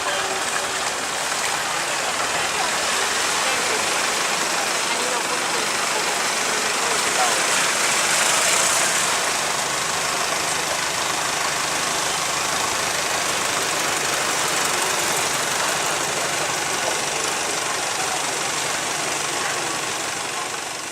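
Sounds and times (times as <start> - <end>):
boat engine running: 0.0 - 20.9.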